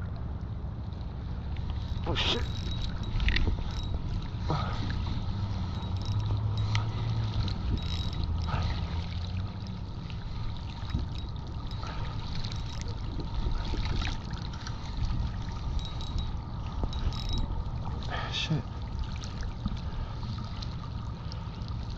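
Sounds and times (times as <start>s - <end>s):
low steady hum: 0.0s - 21.9s
water lapping against rocks: 1.4s - 21.9s.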